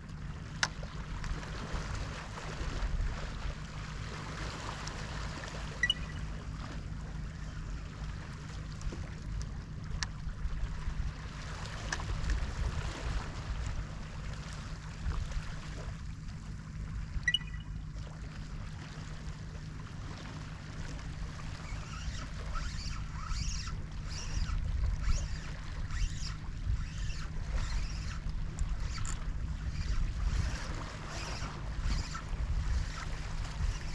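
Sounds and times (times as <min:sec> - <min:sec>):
wind rumbling on microphone: 0:00.0 - 0:17.6, 0:20.8 - 0:33.9
water lapping against shore: 0:00.0 - 0:33.9.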